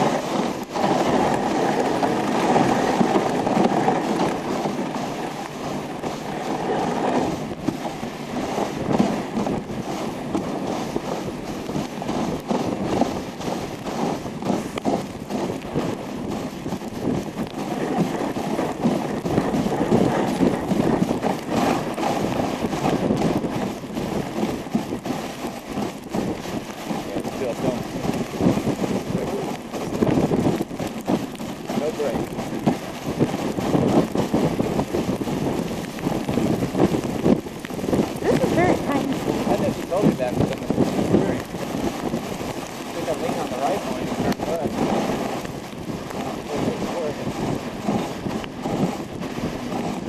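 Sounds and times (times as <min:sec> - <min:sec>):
sled knocking and rattling: 0:00.0 - 0:50.0
sled runners scraping on snow: 0:00.0 - 0:50.0.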